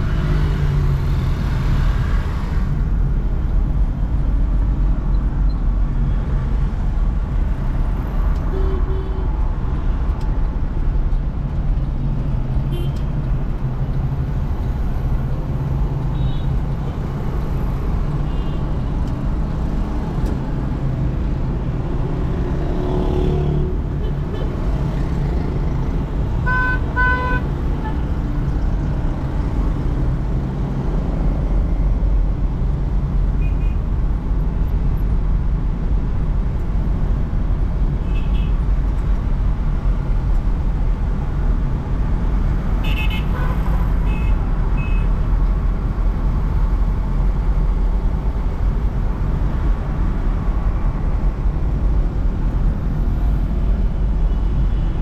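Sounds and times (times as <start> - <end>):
road and engine noise: 0.0 - 55.0.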